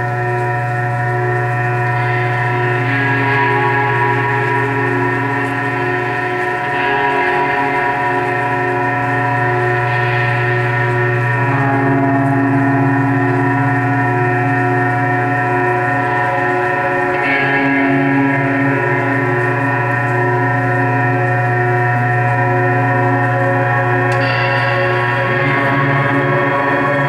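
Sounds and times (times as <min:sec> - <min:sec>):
band playing a loud drone: 0:00.0 - 0:27.0.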